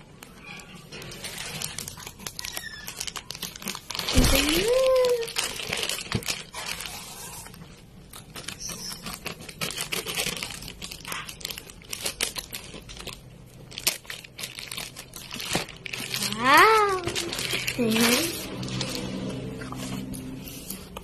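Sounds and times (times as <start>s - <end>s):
plastic mailer bag crinkling: 0.2s - 21.0s
scissors cutting plastic: 0.2s - 21.0s.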